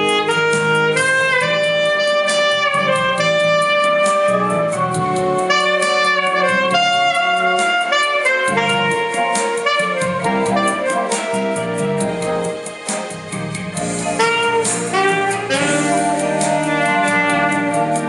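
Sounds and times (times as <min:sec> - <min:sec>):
saxophone jazz melody: 0:00.0 - 0:18.0.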